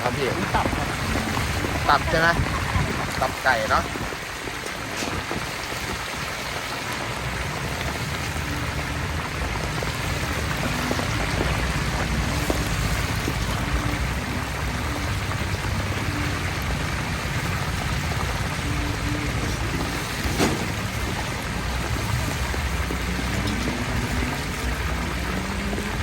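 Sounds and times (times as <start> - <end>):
hot oil sizzling: 0.0 - 26.0.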